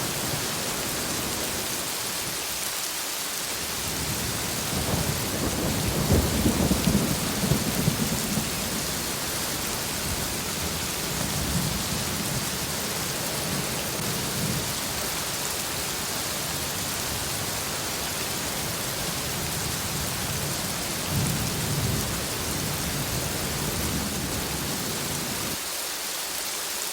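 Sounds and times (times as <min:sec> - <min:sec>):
heavy rain: 0:00.0 - 0:26.9
thunder rolling: 0:03.9 - 0:25.6.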